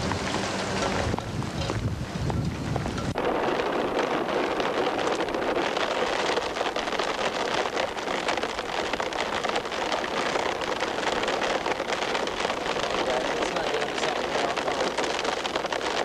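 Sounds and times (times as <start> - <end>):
steady rain patter: 0.0 - 16.0.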